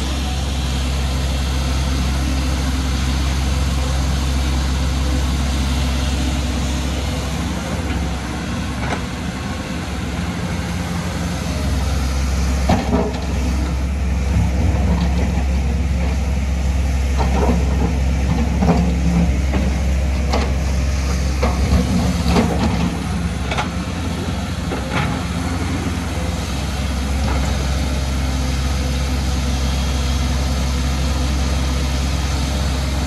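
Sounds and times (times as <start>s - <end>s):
excavator diesel engines running: 0.0s - 33.0s.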